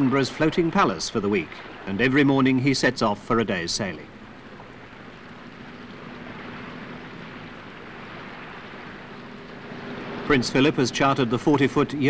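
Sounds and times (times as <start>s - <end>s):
faint low engine hum: 0.0s - 12.0s
water wash along hull: 0.0s - 12.0s.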